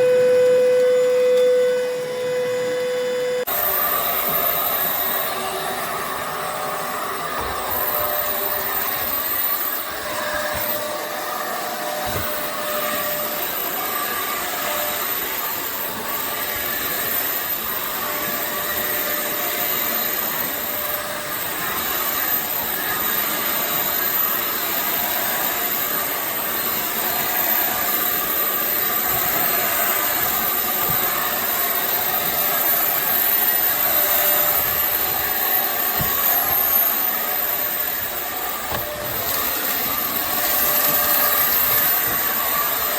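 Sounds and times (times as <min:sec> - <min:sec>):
stick vacuum running: 0:00.0 - 0:42.9.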